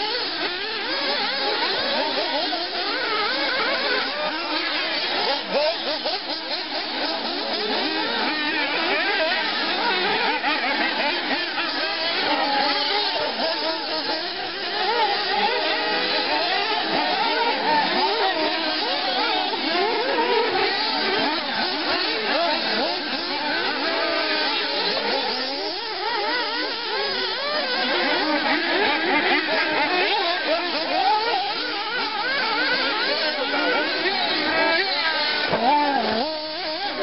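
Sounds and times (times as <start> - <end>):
model car engines revving high: 0.0 - 37.0.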